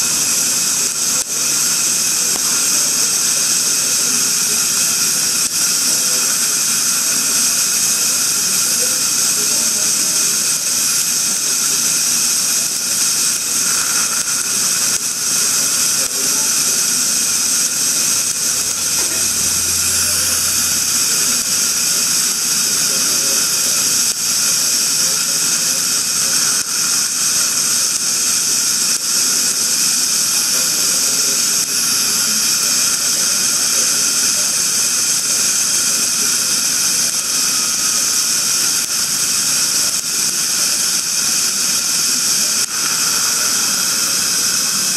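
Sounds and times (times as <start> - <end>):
dental equipment hissing and whining: 0.0 - 44.9.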